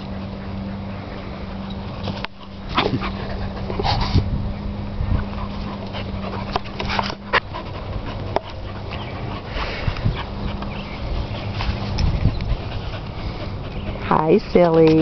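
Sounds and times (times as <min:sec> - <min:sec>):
dog noises: 0:00.0 - 0:04.3, 0:05.0 - 0:15.0
steady low hum: 0:00.0 - 0:15.0.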